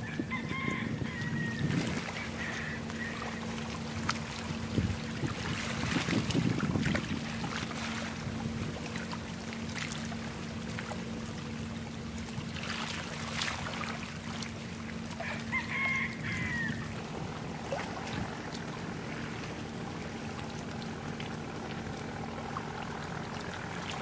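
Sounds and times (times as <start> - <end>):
ship engine drone: 1.6 - 24.0
water wash: 1.6 - 24.0.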